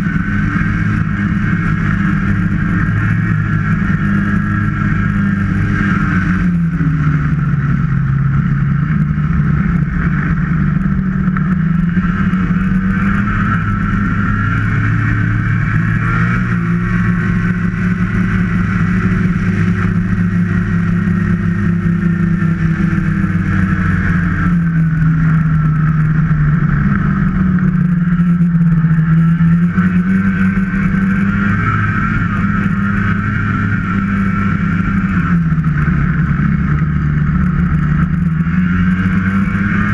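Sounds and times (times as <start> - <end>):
high whine: 0.0 - 39.9
snowmobile engine running: 0.0 - 39.9.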